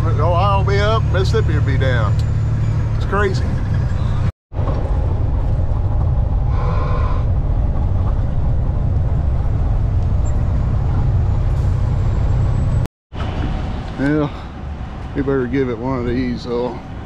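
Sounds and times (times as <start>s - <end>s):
truck diesel engine droning: 0.0s - 17.0s.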